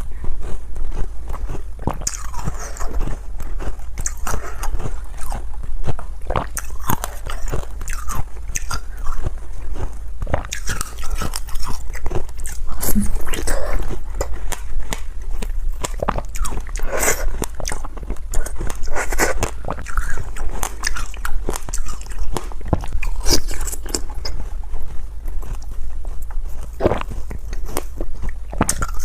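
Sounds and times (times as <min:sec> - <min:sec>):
ice being chewed: 0:00.0 - 0:29.0.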